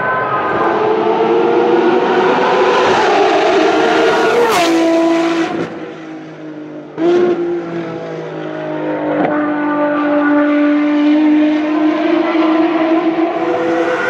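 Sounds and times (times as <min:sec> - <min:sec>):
racing car engine steady note: 0:00.0 - 0:14.0
racing car engine high-revving: 0:00.5 - 0:14.0.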